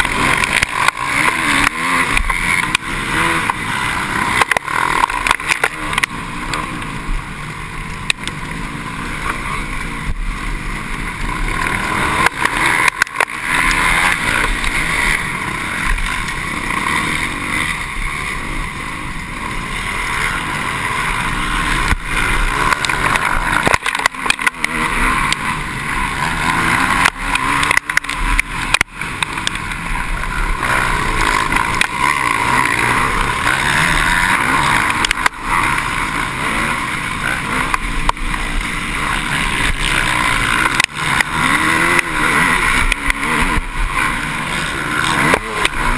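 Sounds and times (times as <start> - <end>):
motocross bikes racing: 0.0 - 45.9.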